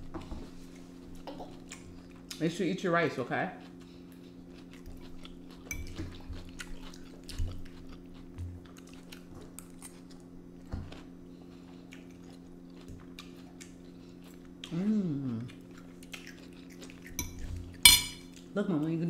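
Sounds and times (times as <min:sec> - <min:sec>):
steady low hum: 0:00.0 - 0:19.0
close chewing: 0:00.8 - 0:02.4, 0:03.6 - 0:18.5.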